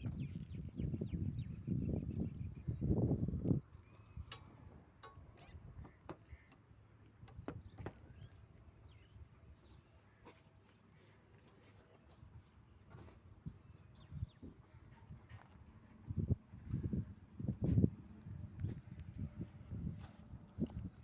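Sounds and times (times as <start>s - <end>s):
birds chirping: 0.0s - 11.2s, 11.9s - 19.5s.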